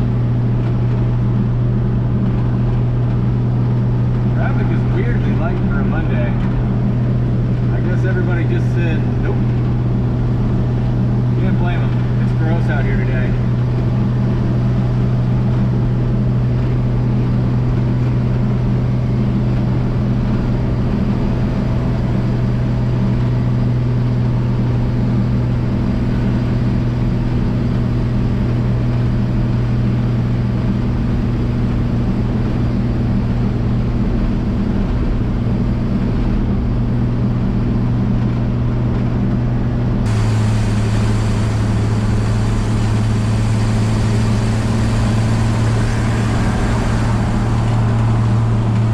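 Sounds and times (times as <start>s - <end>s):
car engine droning: 0.0s - 48.9s
road and tyre noise: 0.0s - 48.9s.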